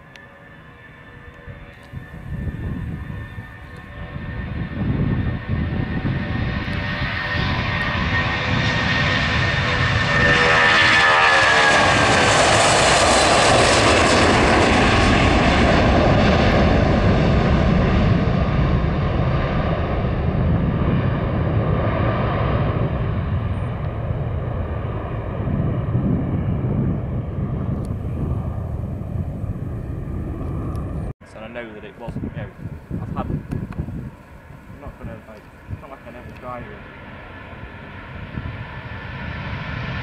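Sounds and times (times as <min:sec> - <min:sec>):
high engine whine: 0:00.0 - 0:40.0
jet engines at take-off thrust: 0:00.0 - 0:40.0.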